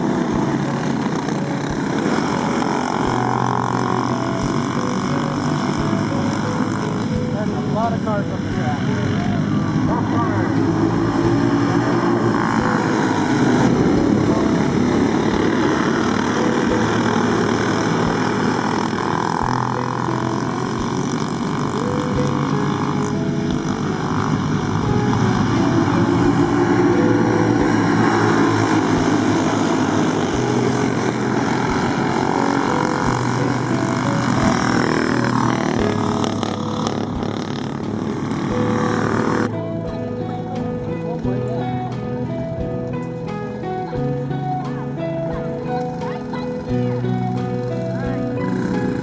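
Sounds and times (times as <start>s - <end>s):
racing kart engines: 0.0s - 49.0s.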